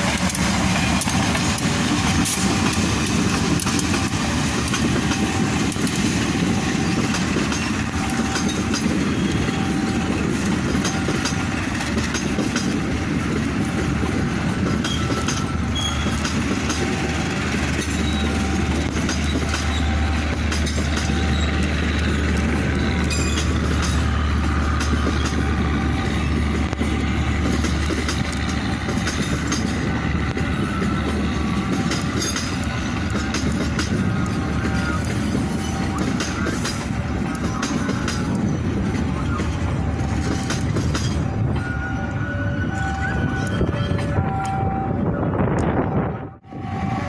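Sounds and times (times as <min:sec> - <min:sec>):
train wheels clicking over rail joints: 0:00.0 - 0:41.5
train rumble: 0:00.0 - 0:47.0.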